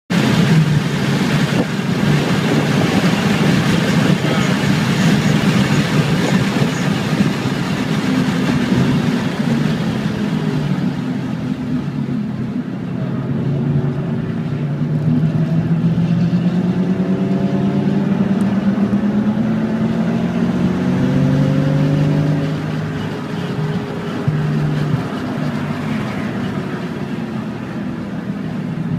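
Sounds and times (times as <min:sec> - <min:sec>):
car engine at high revs: 0:00.1 - 0:28.9
road and wind noise: 0:00.1 - 0:28.9.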